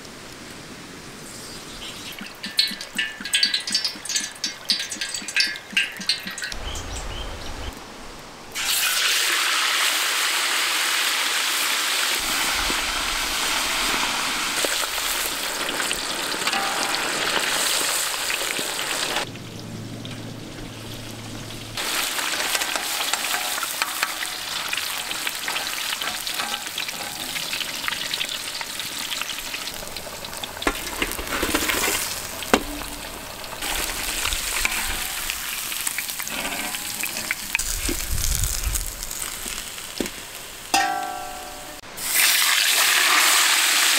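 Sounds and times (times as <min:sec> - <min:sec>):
fish sizzling in hot oil: 0:01.5 - 0:06.5, 0:08.6 - 0:19.3, 0:21.8 - 0:43.9.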